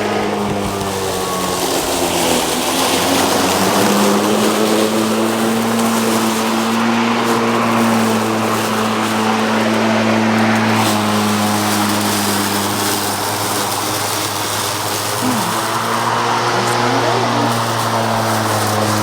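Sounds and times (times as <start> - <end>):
lawnmower engine mowing grass: 0.0 - 19.0.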